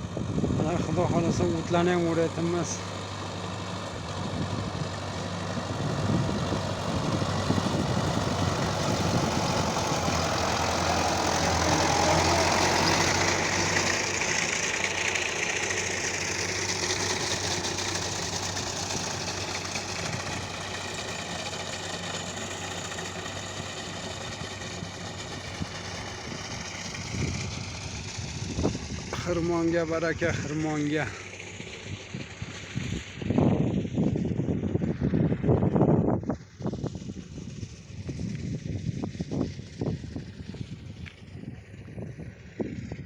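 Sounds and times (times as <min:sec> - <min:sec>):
reaping machine engine running: 0:00.1 - 0:43.0.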